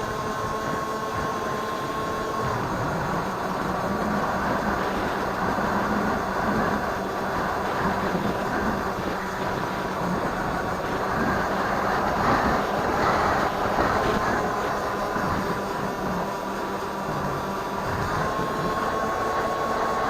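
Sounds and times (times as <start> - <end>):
electric motor and propeller humming: 0.0 - 20.0
wind rush over microphone: 0.0 - 20.0.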